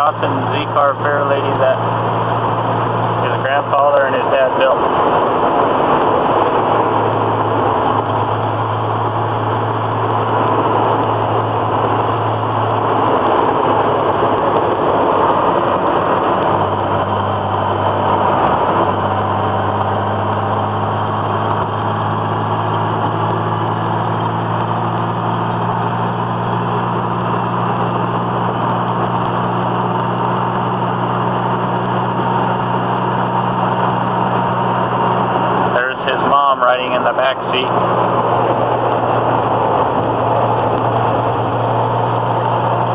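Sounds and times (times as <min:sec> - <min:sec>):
car engine drone: 0:00.0 - 0:42.9
road noise hiss: 0:00.0 - 0:42.9.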